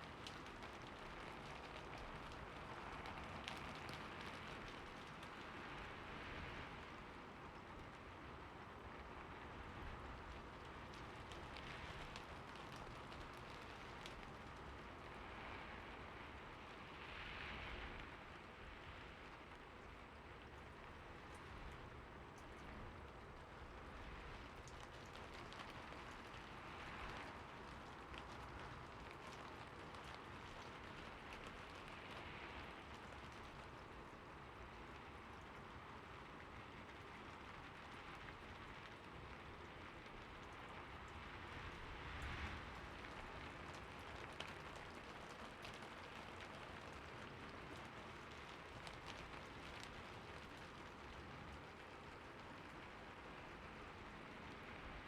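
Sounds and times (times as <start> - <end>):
raindrops ticking: 0.0 - 6.1, 9.8 - 15.3, 20.4 - 55.0
soft steady rain: 0.0 - 55.0.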